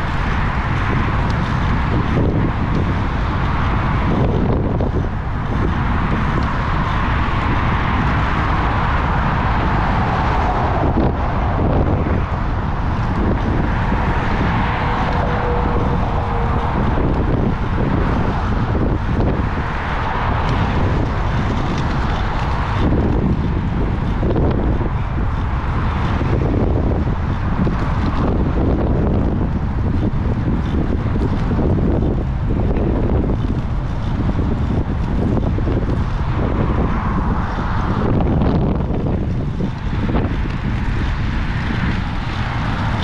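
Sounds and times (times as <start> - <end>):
low rumble of bicycle on road: 0.0 - 43.0
wind buffeting microphone: 0.0 - 43.0.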